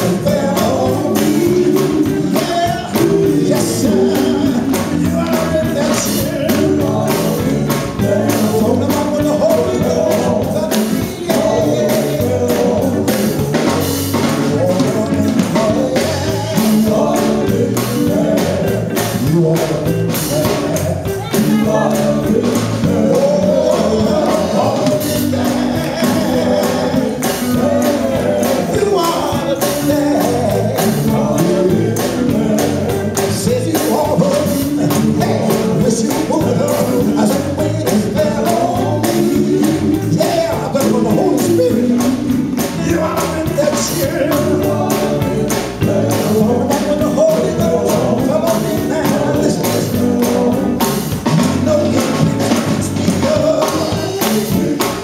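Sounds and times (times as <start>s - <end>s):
male vocal group singing: 0.0s - 55.0s
percussion beat: 0.0s - 55.0s.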